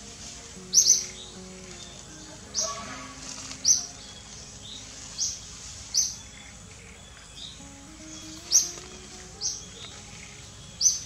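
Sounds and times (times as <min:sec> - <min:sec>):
soft background music: 0:00.0 - 0:11.0
high bird chirps: 0:00.6 - 0:11.0.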